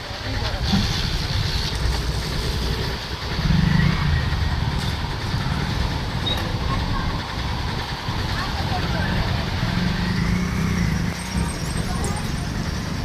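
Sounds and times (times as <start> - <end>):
motorcycle and traffic engines: 0.0 - 13.0.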